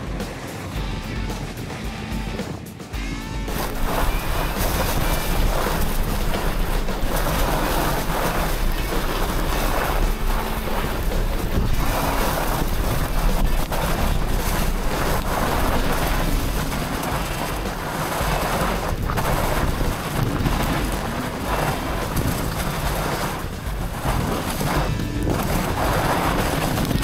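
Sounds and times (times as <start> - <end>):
wind buffeting microphone: 3.5 - 27.0.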